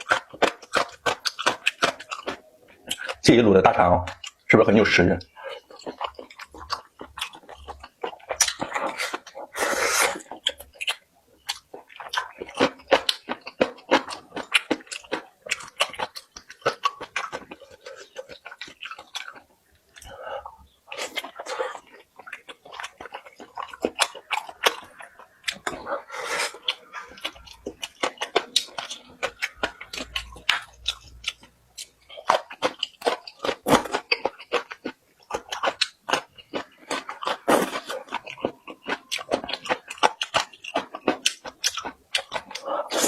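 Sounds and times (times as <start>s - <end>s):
person chewing food: 0.0s - 4.5s, 5.2s - 43.0s
food crunching: 0.0s - 43.0s.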